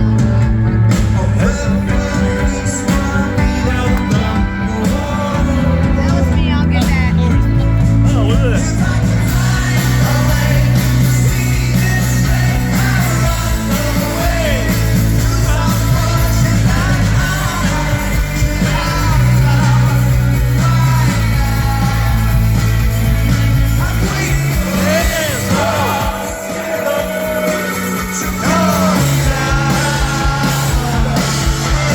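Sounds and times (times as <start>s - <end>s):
lead singer singing: 0.0s - 31.9s
live rock band playing: 0.0s - 31.9s.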